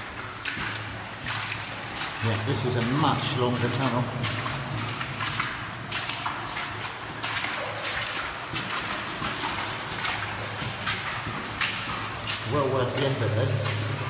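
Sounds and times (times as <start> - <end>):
footsteps splashing through water: 0.0 - 14.0.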